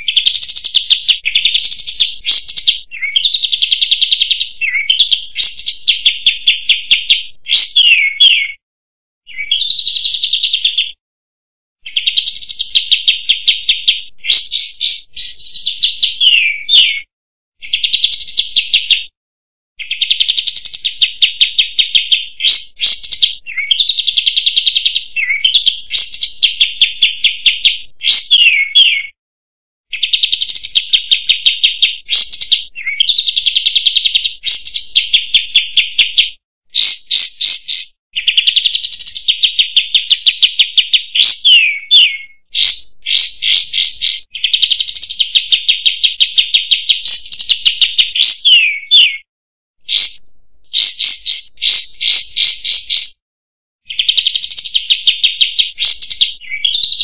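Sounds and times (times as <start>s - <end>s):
bird singing rapid trills: 0.0s - 8.6s, 9.3s - 11.0s, 11.8s - 19.1s, 19.8s - 29.2s, 29.9s - 49.3s, 49.9s - 53.2s, 53.9s - 57.0s.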